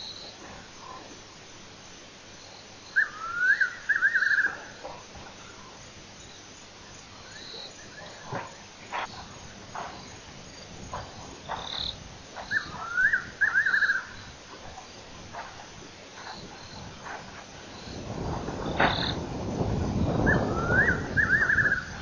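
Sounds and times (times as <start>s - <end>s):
insects hissing: 0.0s - 22.0s.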